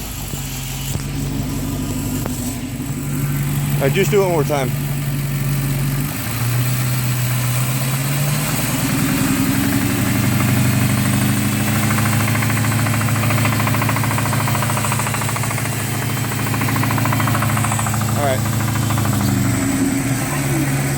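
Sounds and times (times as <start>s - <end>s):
car engine running with knocking: 0.0s - 20.9s.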